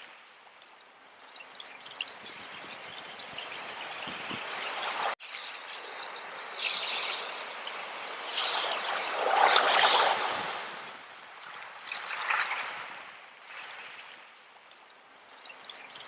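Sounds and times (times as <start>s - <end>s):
sea water washing over shells: 0.0s - 16.0s.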